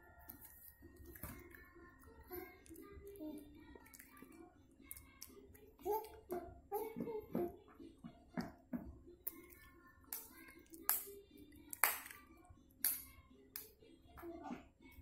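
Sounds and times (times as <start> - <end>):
children's song with backing music: 0.0 - 15.0.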